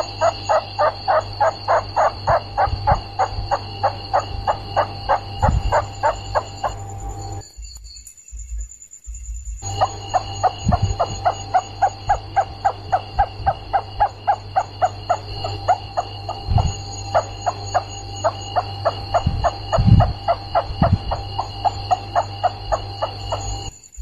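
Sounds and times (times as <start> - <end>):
rats squeaking: 0.0 - 7.4, 9.6 - 24.0
electrical hum: 0.0 - 24.0.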